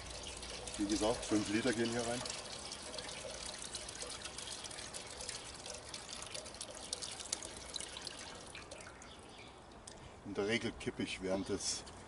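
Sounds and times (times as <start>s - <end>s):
water pouring and splashing: 0.0s - 10.2s.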